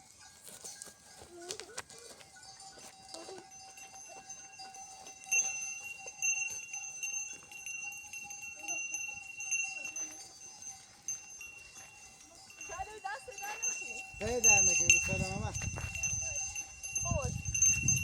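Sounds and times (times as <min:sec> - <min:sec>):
livestock bells clanking: 0:00.0 - 0:18.0.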